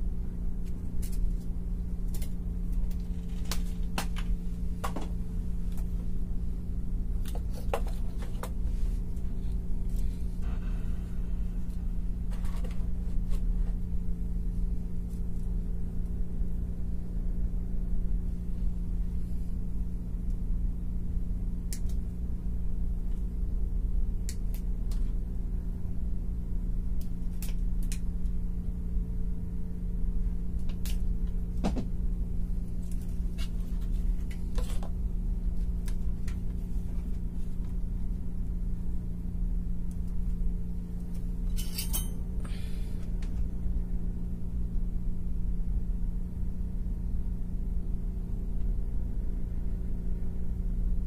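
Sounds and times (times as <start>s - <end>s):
low hum: 0.0s - 51.0s.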